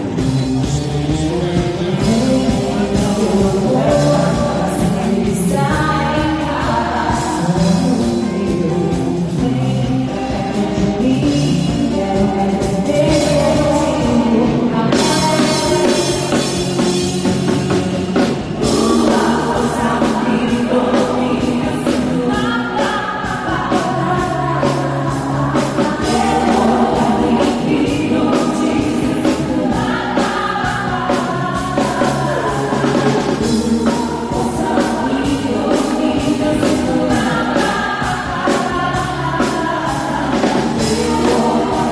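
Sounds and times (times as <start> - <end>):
loud amplified music with beat: 0.0 - 41.9
women singing into microphones: 1.1 - 41.9.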